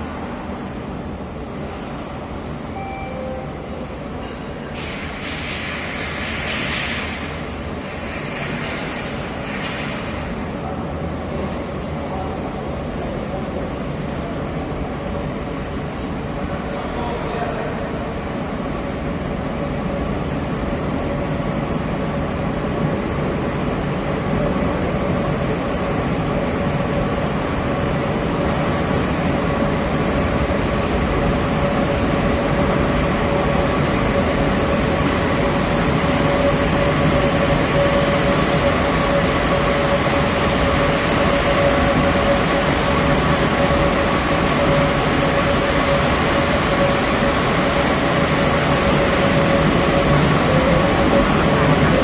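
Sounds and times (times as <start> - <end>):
metro train rumbling with whine: 0.0 - 52.0.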